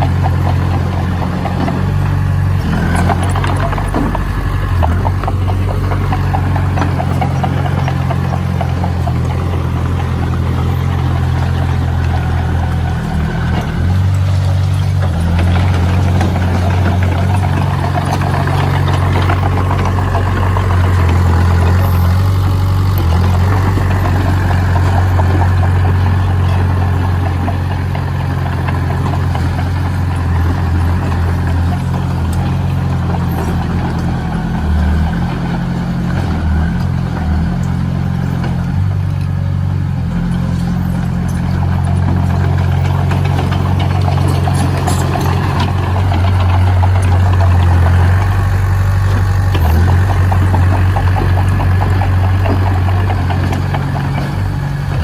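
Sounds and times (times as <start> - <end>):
heavy machine engine droning: 0.0 - 55.0.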